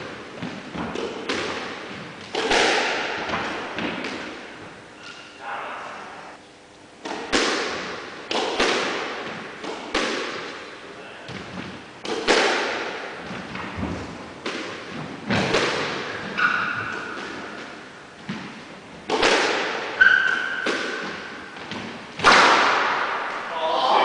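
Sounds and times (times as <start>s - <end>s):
squash ball hits echoing: 0.0s - 5.3s, 7.0s - 23.5s.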